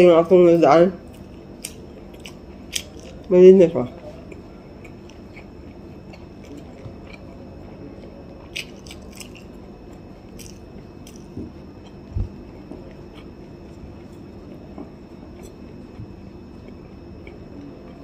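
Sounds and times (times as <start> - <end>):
chewing corn on the cob: 1.0 - 18.0.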